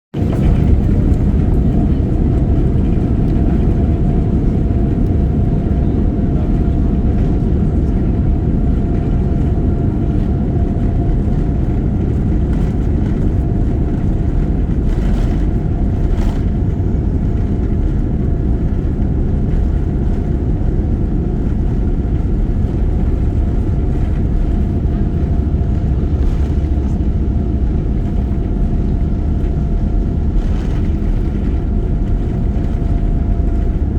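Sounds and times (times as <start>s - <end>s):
airliner engines rumbling: 0.1s - 33.9s
engine whine: 0.2s - 33.9s.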